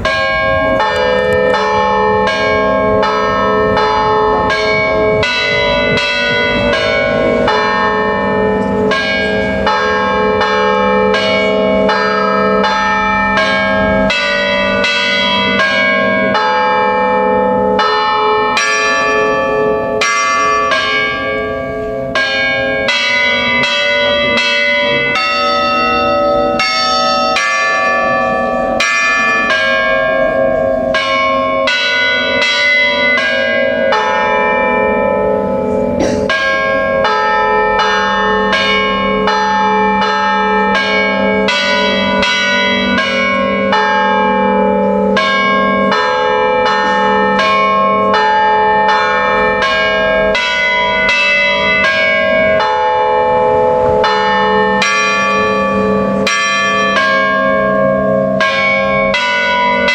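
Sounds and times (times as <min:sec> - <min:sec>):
church bells playing a melody: 0:00.0 - 0:59.9.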